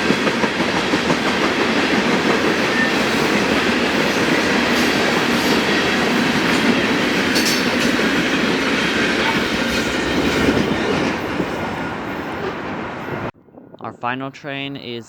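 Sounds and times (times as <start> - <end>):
train cars rolling past: 0.0 - 13.8.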